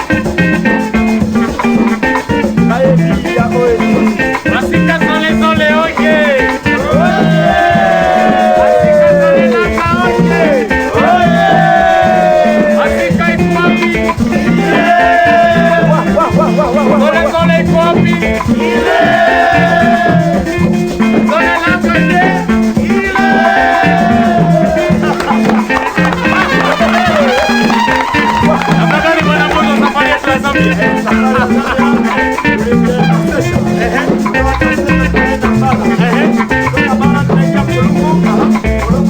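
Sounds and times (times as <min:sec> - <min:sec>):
bass and rhythm groove: 0:00.0 - 0:39.0
sliding melodic lead: 0:00.0 - 0:39.0.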